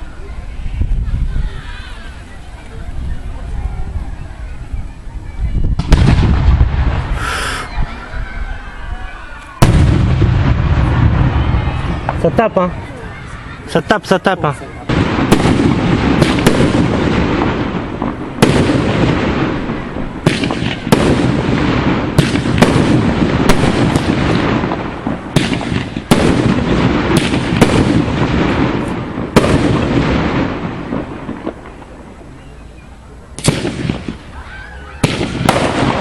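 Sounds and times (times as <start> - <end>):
fireworks crackle and rumble: 0.0 - 36.0.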